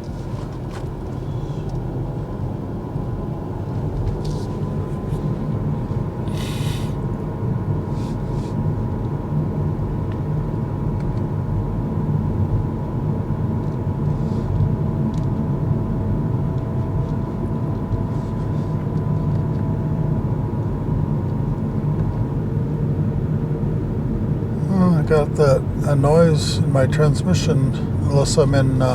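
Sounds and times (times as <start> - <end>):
road and tyre rumble: 0.0 - 28.9.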